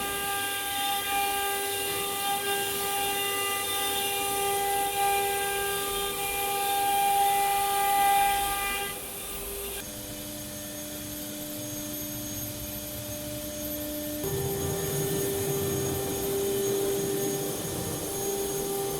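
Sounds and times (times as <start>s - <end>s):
router spindle whine: 0.0s - 18.9s.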